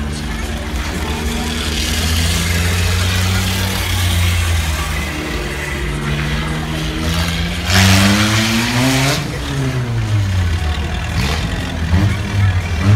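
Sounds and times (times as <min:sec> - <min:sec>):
diesel engine revving: 0:00.0 - 0:12.9.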